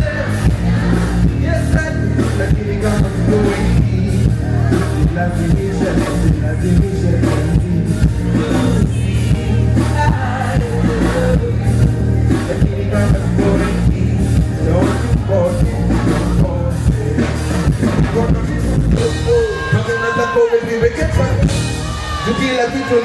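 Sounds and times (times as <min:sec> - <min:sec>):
heavy bass beat: 0:00.0 - 0:23.0
live band music over pa: 0:00.0 - 0:23.0
people singing: 0:00.0 - 0:23.0.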